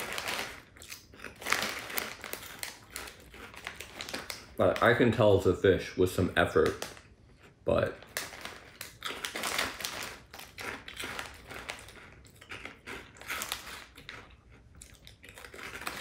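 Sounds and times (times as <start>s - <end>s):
crunching rice crackers: 0.0s - 16.0s.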